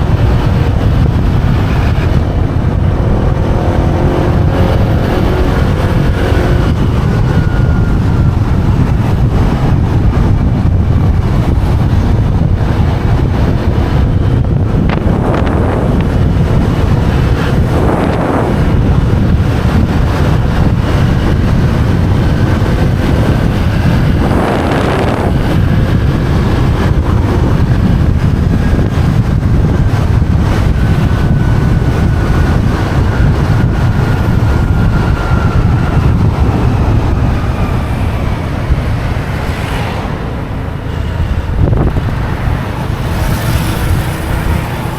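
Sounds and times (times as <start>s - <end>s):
faint motorbike engine: 0.0s - 44.9s
wind buffeting microphone: 0.0s - 44.9s.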